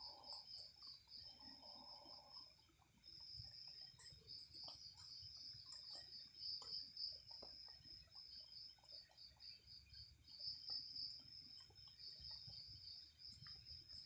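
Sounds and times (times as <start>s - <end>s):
crickets trilling: 0.0s - 14.0s
faint ticks and clicks: 0.0s - 14.0s.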